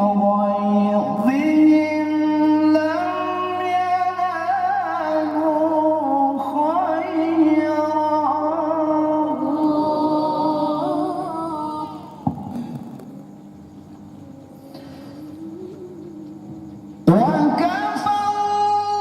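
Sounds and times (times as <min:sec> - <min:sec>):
person reciting melodically: 0:00.0 - 0:13.3, 0:14.1 - 0:19.0.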